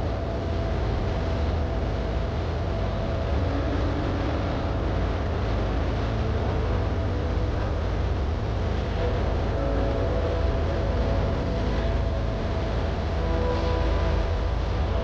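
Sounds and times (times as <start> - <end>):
motorboat engine rumbling: 0.0 - 15.0.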